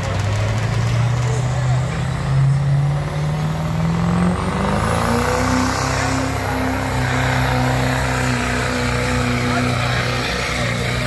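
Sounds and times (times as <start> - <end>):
diesel truck engine at full throttle: 0.0 - 11.0.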